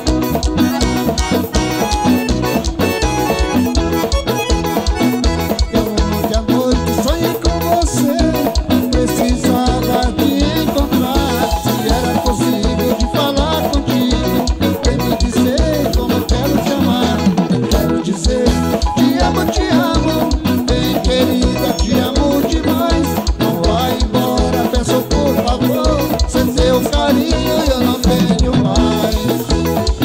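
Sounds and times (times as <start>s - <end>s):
live dance band music: 0.0s - 30.0s.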